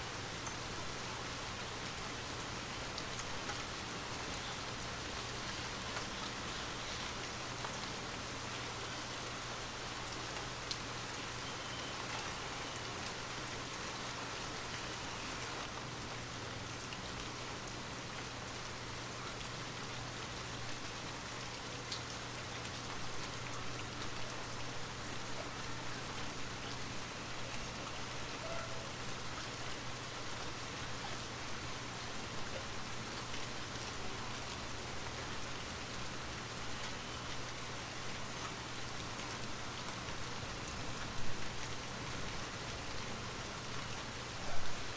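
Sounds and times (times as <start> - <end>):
rain hissing on a surface: 0.0 - 44.9.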